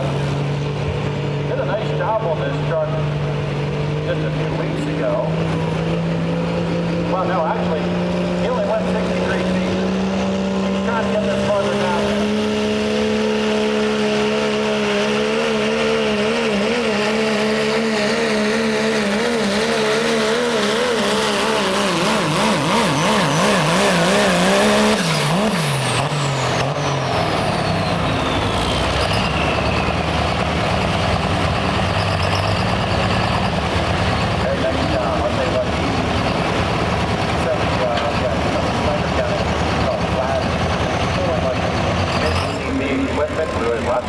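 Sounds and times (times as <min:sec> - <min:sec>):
diesel engine running hard: 0:00.0 - 0:44.0.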